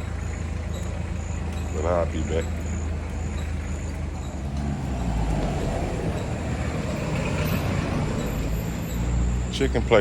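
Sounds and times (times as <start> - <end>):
street traffic noise: 0.0 - 10.0
vehicle engine rumbling: 0.0 - 10.0.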